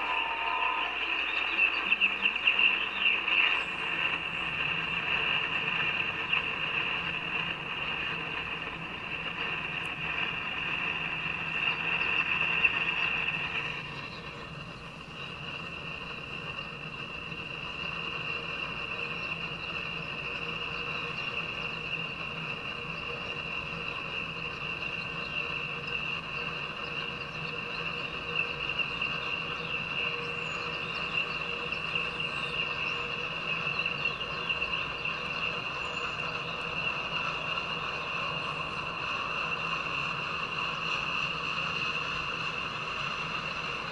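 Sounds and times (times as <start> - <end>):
freight train rolling past: 0.0 - 43.9
high-pitched whine: 0.0 - 43.9.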